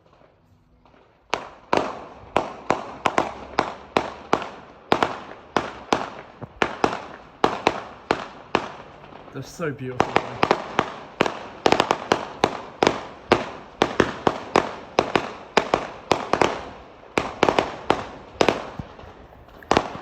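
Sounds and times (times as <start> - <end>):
fireworks exploding: 0.0 - 20.0.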